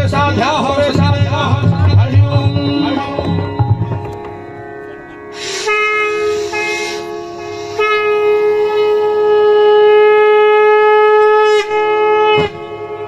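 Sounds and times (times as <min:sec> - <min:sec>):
steady drone: 0:00.1 - 0:11.9
reed wind instrument melody: 0:01.2 - 0:13.0.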